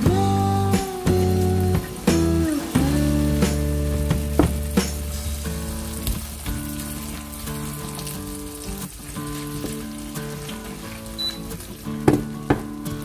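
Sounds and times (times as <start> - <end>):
food sizzling in oil: 0.7 - 13.0.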